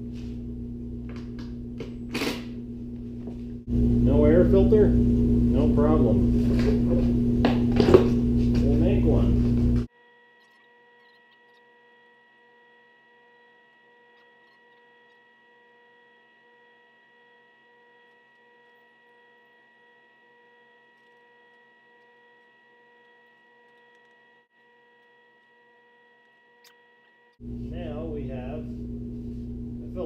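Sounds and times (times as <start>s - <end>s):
faint electrical hum with whine: 0.0s - 30.0s.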